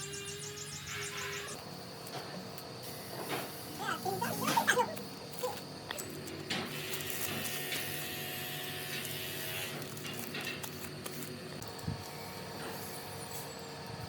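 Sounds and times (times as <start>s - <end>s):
small electric motor buzzing: 0.0s - 2.0s, 2.8s - 14.0s.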